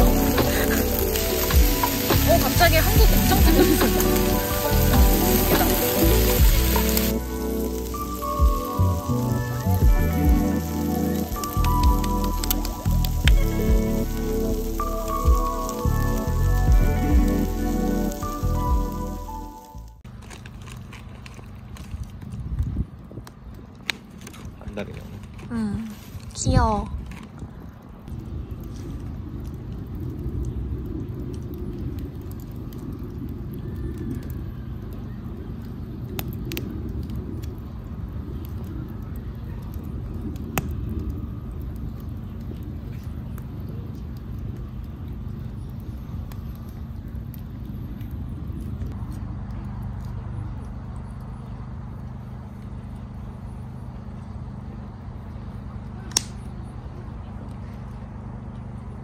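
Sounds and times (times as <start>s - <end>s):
fire low rumble: 0.0s - 59.0s
wood crackling in fire: 0.0s - 59.0s.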